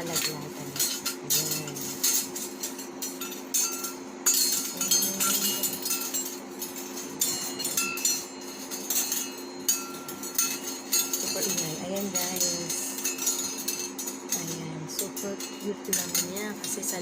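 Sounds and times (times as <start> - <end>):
metal kitchen utensils clattering: 0.0 - 17.0.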